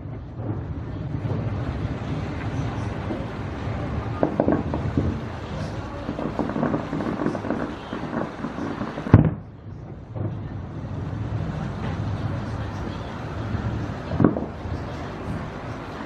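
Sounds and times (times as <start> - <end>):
fireworks bangs and crackles: 0.0 - 16.0
loud firework bang: 0.0 - 16.0.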